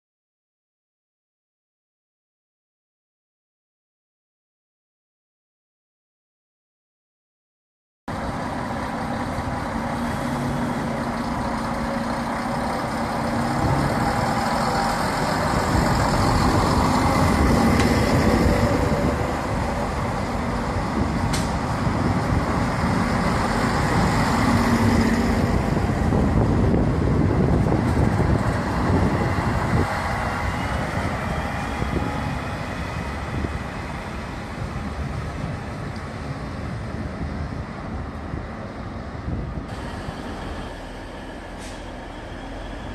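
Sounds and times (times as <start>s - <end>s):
diesel railcar engines revving: 8.1s - 42.9s.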